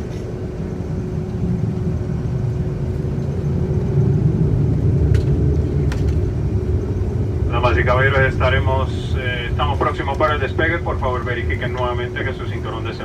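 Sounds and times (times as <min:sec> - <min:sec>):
aircraft engines low rumble: 0:00.0 - 0:13.0
constant hum: 0:00.0 - 0:13.0.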